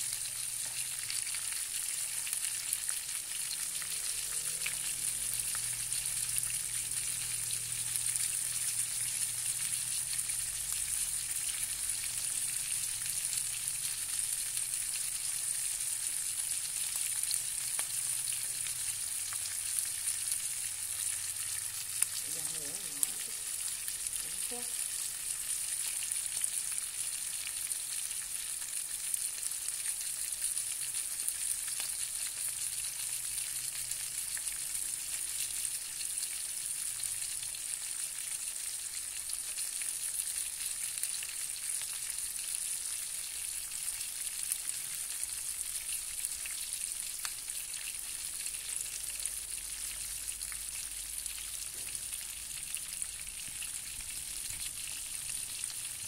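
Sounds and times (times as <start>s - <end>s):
oil sizzling in a frying pan: 0.0s - 56.0s.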